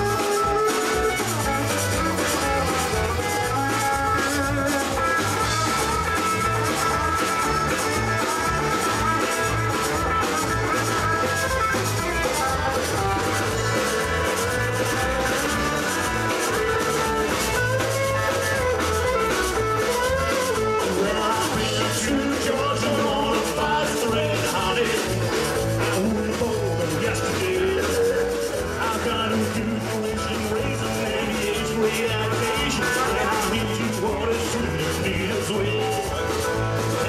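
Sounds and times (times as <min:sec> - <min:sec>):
accordion: 0:00.0 - 0:37.0
live rock band playing: 0:00.0 - 0:37.0.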